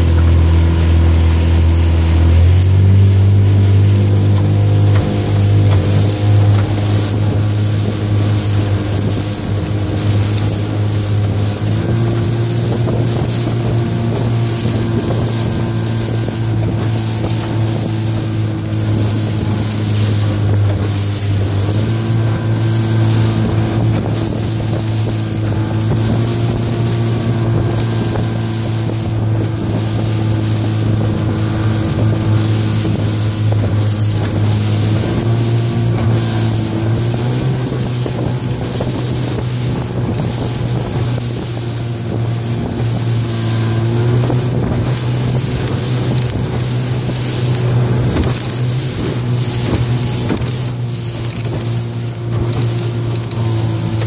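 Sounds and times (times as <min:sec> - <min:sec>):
outboard motor running: 0:00.0 - 0:54.0
wind noise on microphone: 0:00.0 - 0:54.0.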